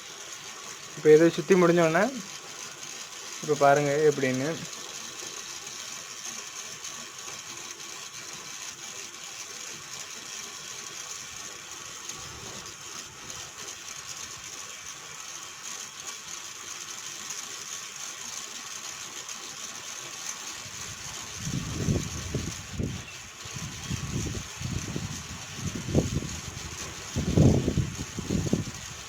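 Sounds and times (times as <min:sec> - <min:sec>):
typewriter ratchet clicking: 0:00.0 - 0:29.0.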